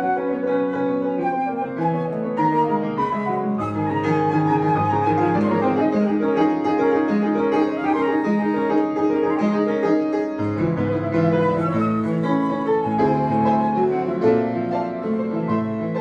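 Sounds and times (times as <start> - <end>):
live jazz piano: 0.0 - 16.0.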